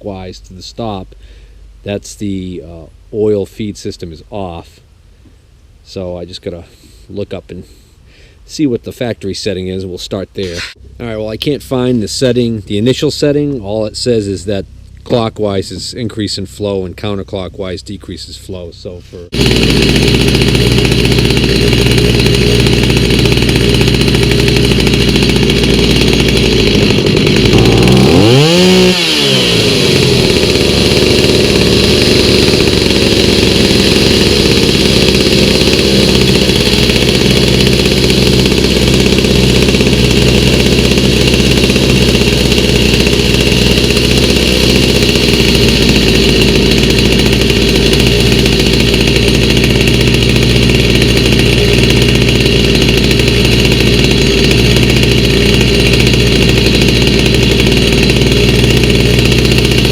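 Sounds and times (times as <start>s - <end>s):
chainsaw engine running: 10.4s - 59.9s.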